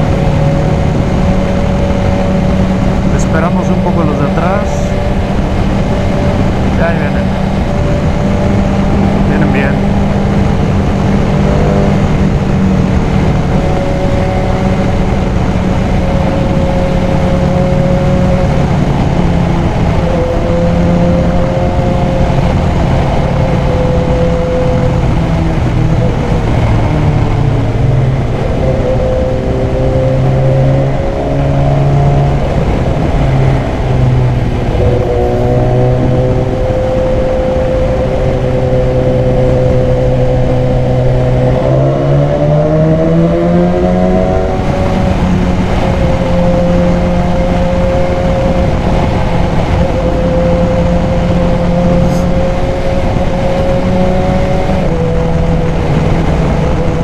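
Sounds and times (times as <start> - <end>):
motorcycle engine running: 0.0 - 57.0
rushing noise: 0.0 - 57.0.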